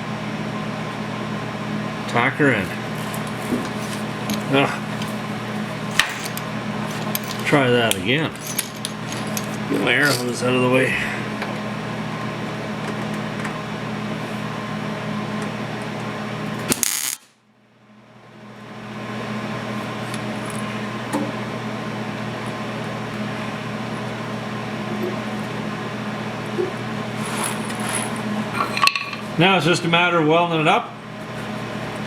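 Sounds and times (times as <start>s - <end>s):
electrical hum with hiss: 0.0s - 32.0s.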